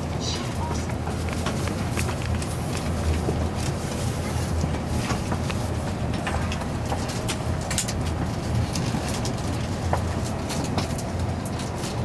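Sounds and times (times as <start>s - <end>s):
train rumble from inside car: 0.0s - 12.0s.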